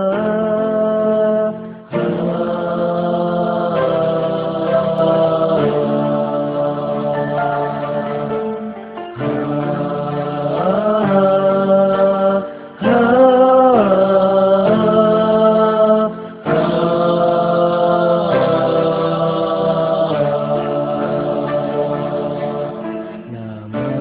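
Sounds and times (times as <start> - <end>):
vocal religious song: 0.0 - 24.0.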